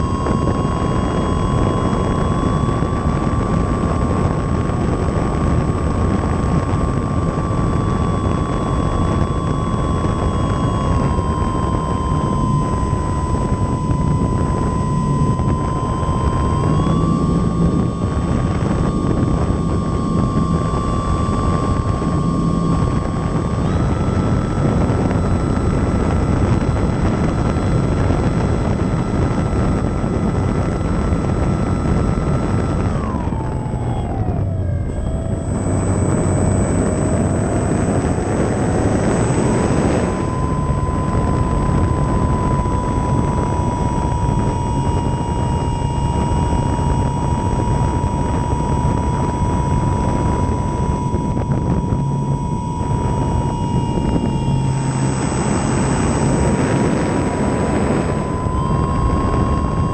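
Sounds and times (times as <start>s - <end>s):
model airplane motor whine: 0.0s - 59.9s
wind rush: 0.0s - 59.9s.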